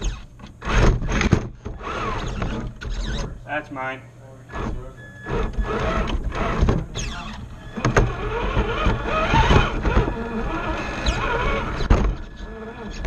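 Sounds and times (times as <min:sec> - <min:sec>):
electric motor whine: 0:00.0 - 0:03.4, 0:04.5 - 0:13.0.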